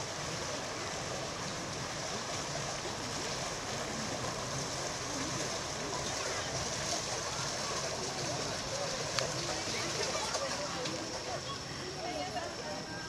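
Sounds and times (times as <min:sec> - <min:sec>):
water rushing past a boat: 0:00.0 - 0:13.0.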